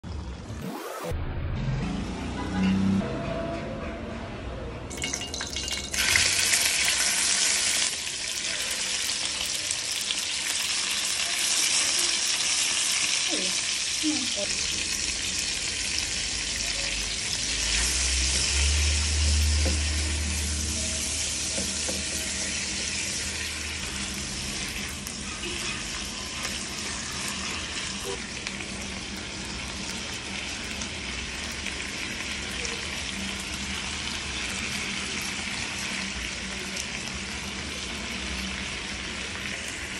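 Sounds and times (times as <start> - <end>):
chicken sizzling in oil: 4.9 - 39.9
food stirred in pan: 5.1 - 39.9.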